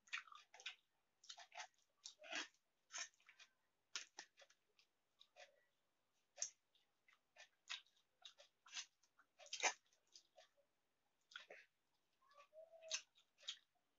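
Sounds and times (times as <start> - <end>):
person chewing with wet clicks: 0.0 - 10.6, 11.2 - 13.7.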